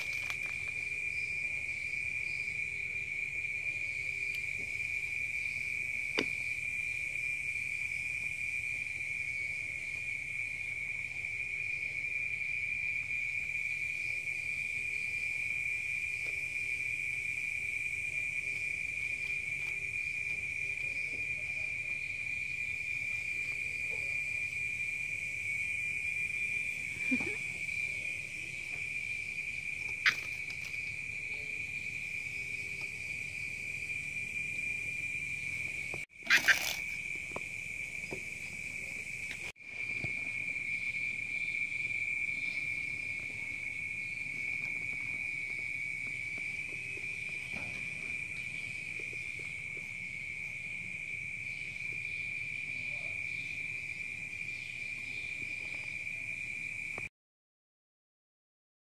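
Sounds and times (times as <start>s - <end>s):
crickets trilling: 0.0s - 57.1s.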